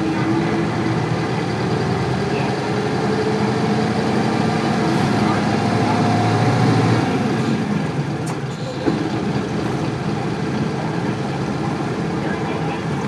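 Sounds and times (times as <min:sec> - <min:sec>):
diesel bus engine running: 0:00.0 - 0:13.0.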